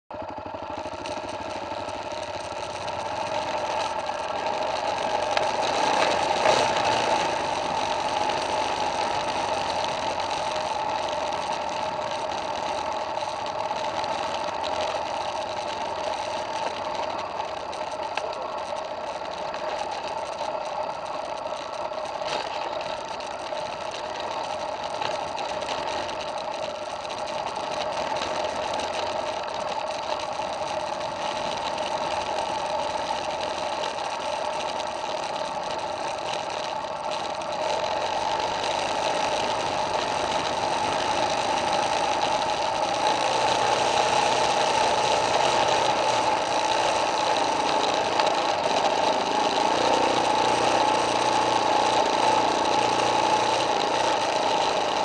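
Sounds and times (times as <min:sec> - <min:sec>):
dirt bike engine running: 0:00.1 - 0:55.0.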